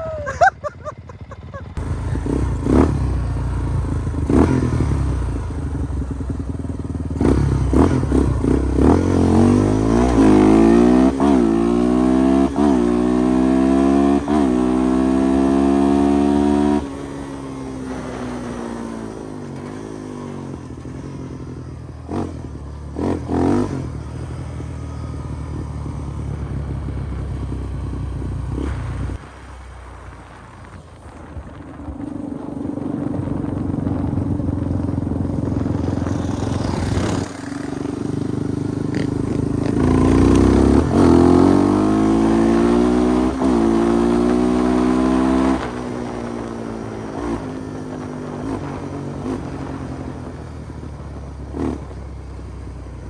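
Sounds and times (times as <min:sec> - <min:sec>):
off-road engine accelerating: 0:00.0 - 0:53.0.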